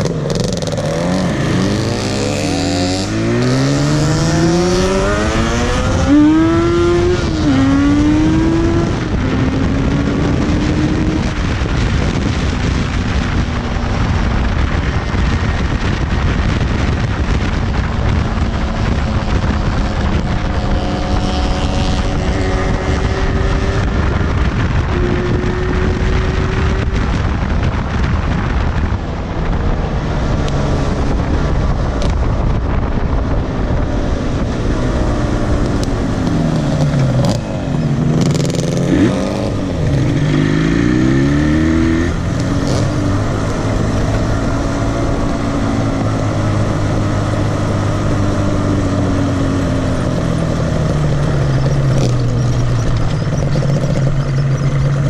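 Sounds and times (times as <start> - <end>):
motorcycle engine revving: 0.0 - 55.0
wind buffeting microphone: 0.0 - 55.0.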